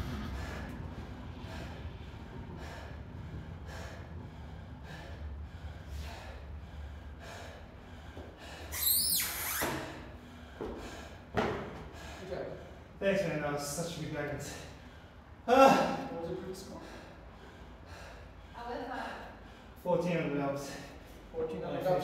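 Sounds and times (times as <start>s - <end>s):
person breathing hard: 0.0s - 13.0s, 14.4s - 19.9s.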